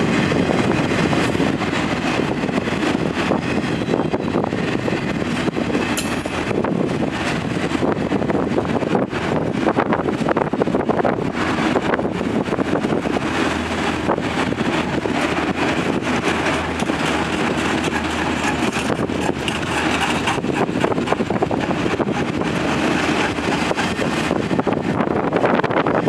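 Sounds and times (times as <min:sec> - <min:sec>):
freight train wheels rumbling on track: 0:00.0 - 0:26.0.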